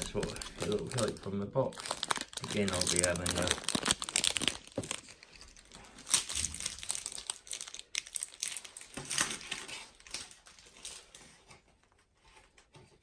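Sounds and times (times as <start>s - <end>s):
packaging crinkling: 0.0s - 11.3s.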